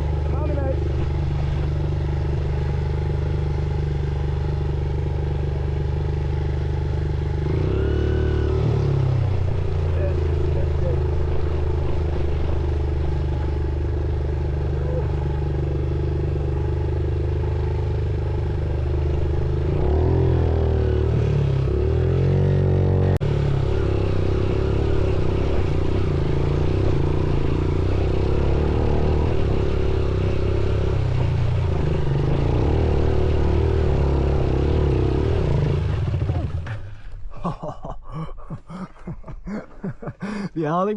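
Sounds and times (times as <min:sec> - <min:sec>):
motorcycle engine running: 0:00.0 - 0:37.1.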